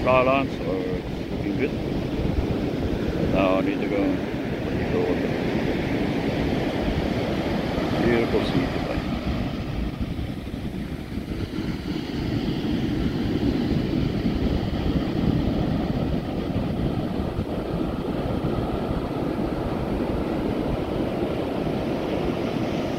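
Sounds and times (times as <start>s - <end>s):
surf washing up a beach: 0.0s - 22.9s.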